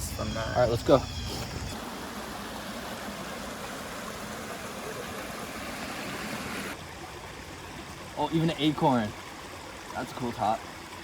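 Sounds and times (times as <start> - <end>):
creek water rushing: 1.7 - 11.0.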